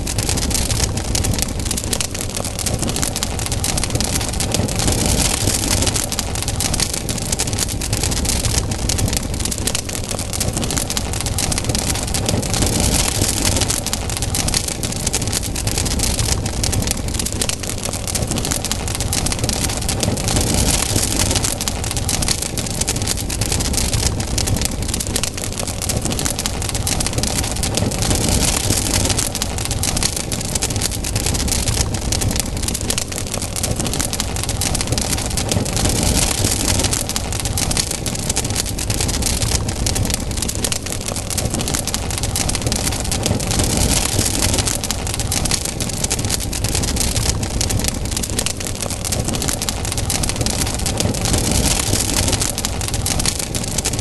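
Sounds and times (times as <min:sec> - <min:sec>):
campfire crackling and popping: 0:00.0 - 0:54.0
fire rushing hiss: 0:00.0 - 0:54.0.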